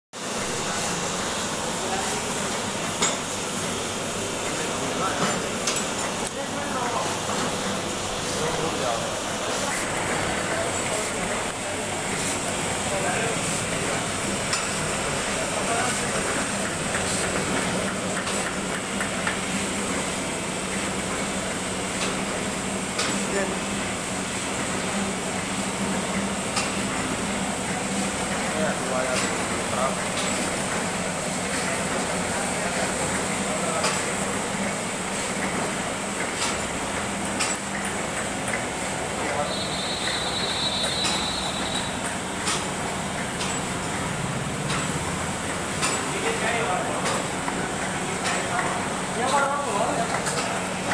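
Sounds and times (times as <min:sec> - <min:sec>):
printing press hum and clatter: 0:00.2 - 0:50.9.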